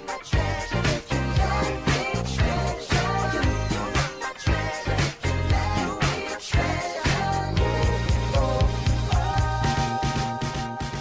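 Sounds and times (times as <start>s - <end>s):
song with beat and bass: 0.0s - 11.0s.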